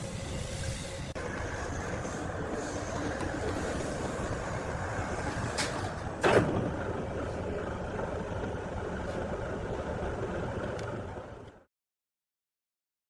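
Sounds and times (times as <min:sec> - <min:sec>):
machinery running: 0:00.0 - 0:11.6.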